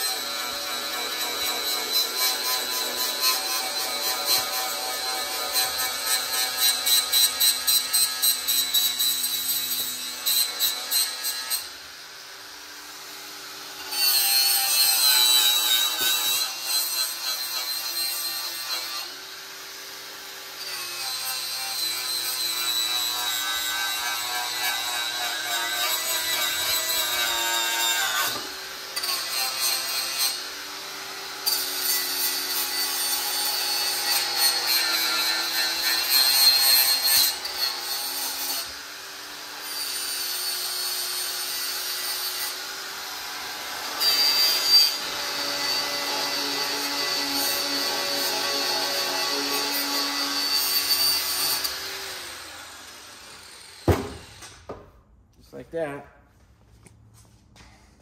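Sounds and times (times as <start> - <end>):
grinder whining against sheet metal: 0.0 - 11.8, 13.8 - 19.2, 20.5 - 38.8, 39.6 - 54.6.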